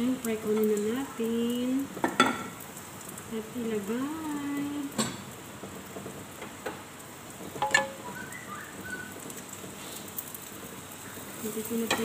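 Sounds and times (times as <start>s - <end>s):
omelette sizzling in oil: 0.0s - 12.0s.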